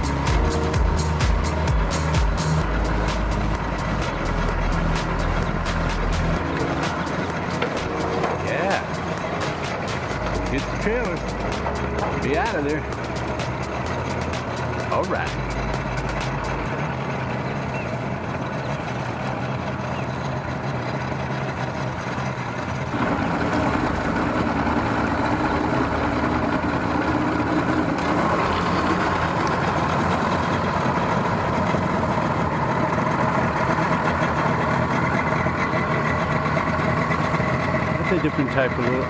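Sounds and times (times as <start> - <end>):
engines idling: 0.0 - 39.0.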